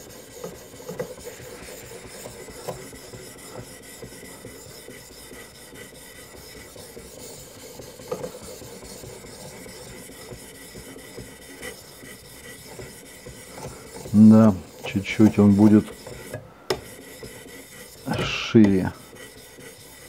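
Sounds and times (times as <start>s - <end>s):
stone scraping knife edge: 0.0s - 20.0s.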